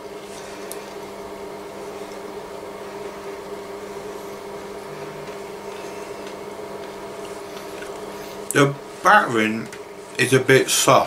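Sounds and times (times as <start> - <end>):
machine humming with tones: 0.0 - 11.0.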